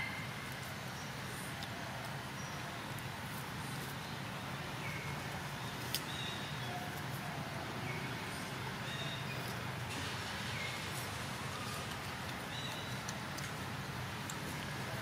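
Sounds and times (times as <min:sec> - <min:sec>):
outdoor background hum: 0:00.0 - 0:15.0.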